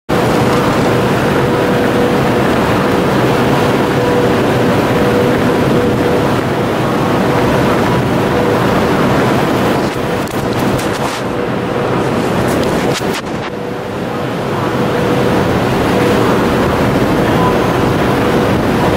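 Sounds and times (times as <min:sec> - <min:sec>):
standing train hum: 0:00.1 - 0:18.9.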